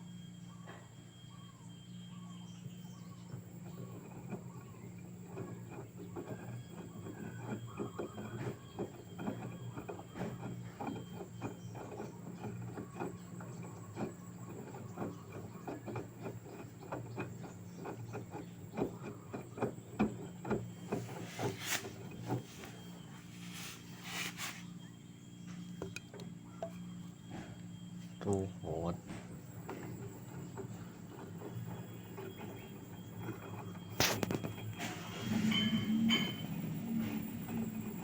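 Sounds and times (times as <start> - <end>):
washing machine motor hum: 0.0 - 38.0.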